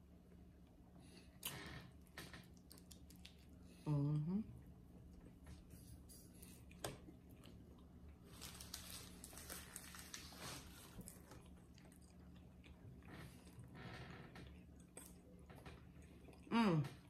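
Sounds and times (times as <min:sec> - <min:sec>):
low steady hum: 0:00.0 - 0:17.0
chewing crunchy food: 0:00.6 - 0:03.8, 0:04.6 - 0:17.0.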